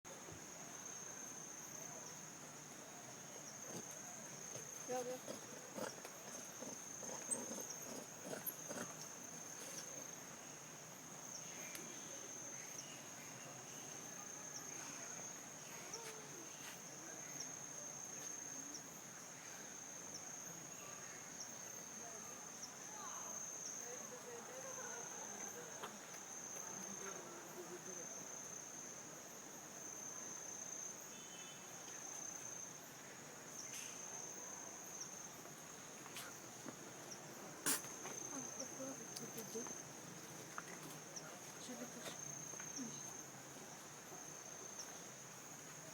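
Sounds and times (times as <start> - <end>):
faint scattered soft sounds: 0.1 - 45.9.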